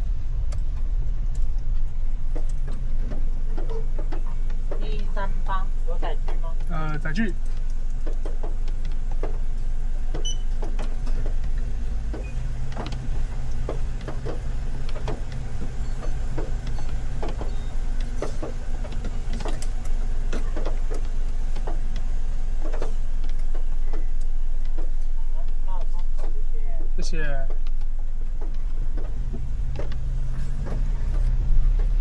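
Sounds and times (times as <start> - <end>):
car idling: 0.0 - 32.0.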